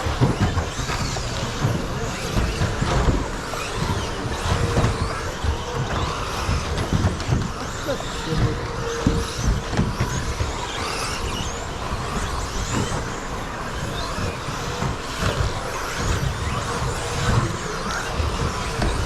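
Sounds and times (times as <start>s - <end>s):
electric toy truck motors whining: 0.0s - 19.0s.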